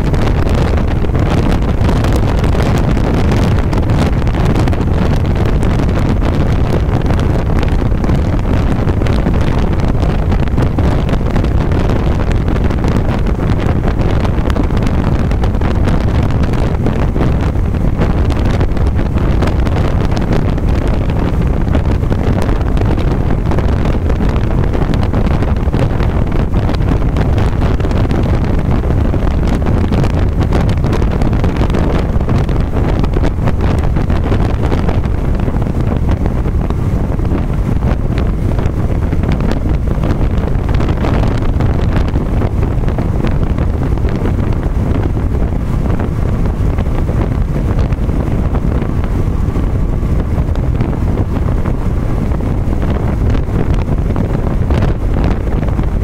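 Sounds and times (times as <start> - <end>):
car road noise at highway speed: 0.0 - 56.0
wind buffeting microphone: 0.0 - 56.0.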